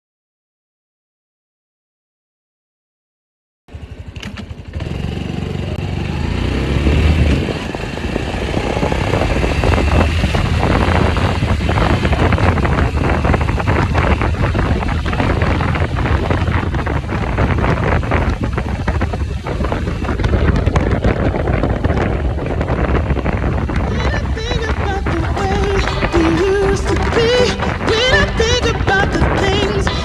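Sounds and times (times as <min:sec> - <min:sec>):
motorcycle engine running: 0:03.7 - 0:30.0.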